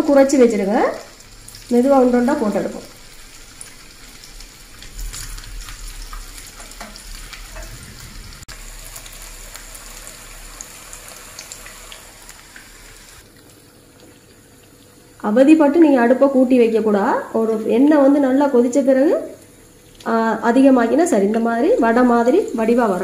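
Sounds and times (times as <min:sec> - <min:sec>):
patties sizzling in hot oil: 0:00.0 - 0:23.0.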